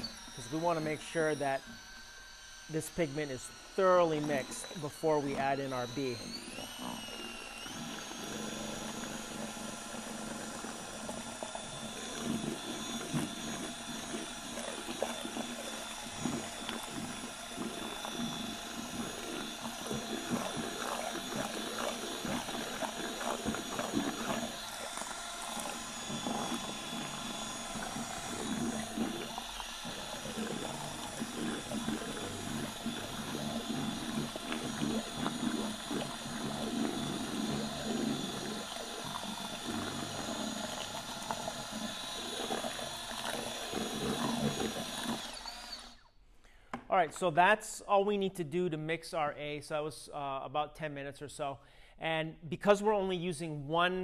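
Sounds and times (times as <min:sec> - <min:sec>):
paddle mixer sloshing liquid: 0:00.0 - 0:46.1
cordless drill running: 0:00.0 - 0:46.2.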